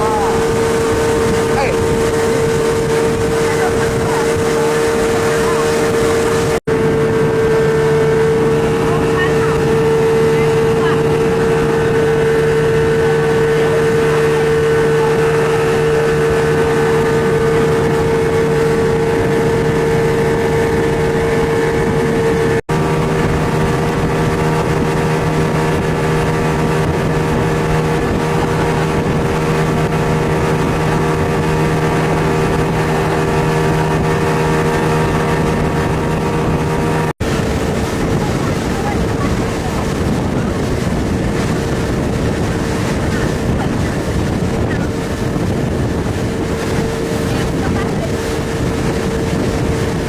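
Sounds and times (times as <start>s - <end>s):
speedboat engine droning: 0.0s - 50.0s.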